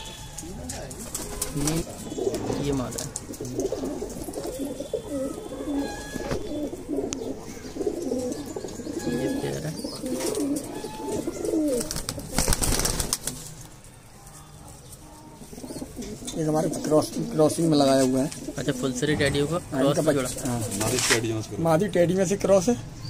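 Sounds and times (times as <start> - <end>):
pigeons cooing: 0.0 - 13.2, 15.0 - 21.5.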